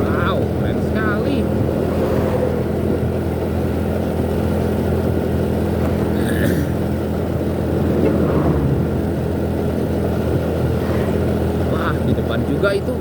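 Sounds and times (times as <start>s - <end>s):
road noise: 0.0s - 13.0s
trucks and buses in traffic: 0.0s - 13.0s.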